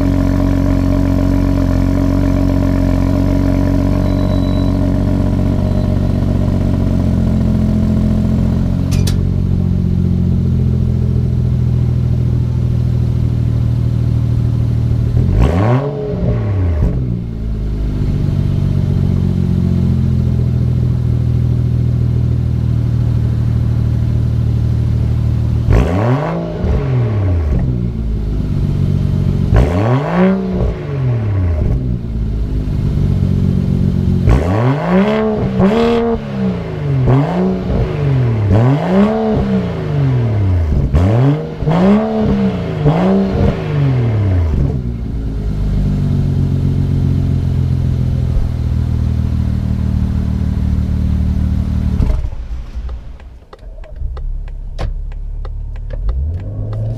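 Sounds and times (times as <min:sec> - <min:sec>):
engine revving on throttle blips: 0:00.0 - 0:09.2, 0:14.9 - 0:20.7, 0:25.0 - 0:56.9
car engine idling: 0:00.0 - 0:56.9.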